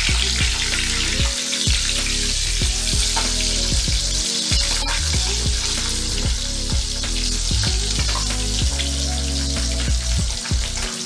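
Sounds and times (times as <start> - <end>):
background music with beat: 0.0 - 11.0
fish sizzling in hot oil: 0.0 - 11.0.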